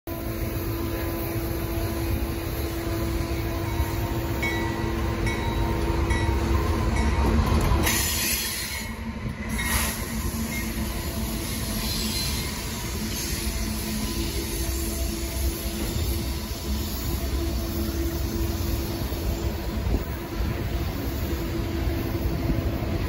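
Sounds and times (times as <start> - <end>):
diesel locomotive engine rumble: 0.1 - 23.0
train cars rolling on rails: 0.1 - 23.0.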